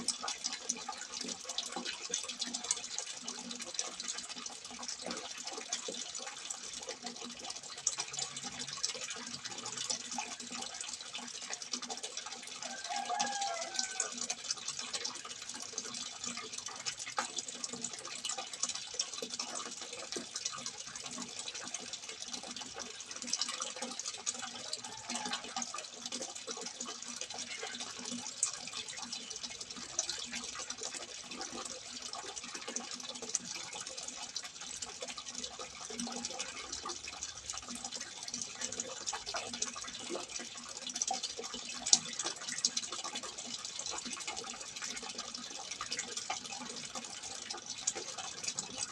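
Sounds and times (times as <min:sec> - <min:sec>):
water splashing from a spout: 0:00.0 - 0:48.9.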